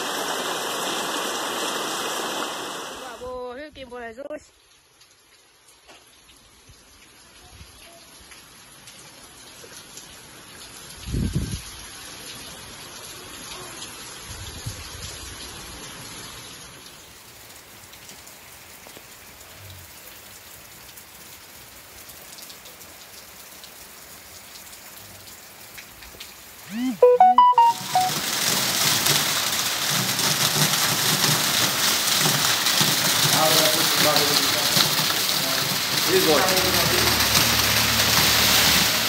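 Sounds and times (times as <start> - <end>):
heavy rain falling: 0.0 - 3.6, 4.6 - 39.0.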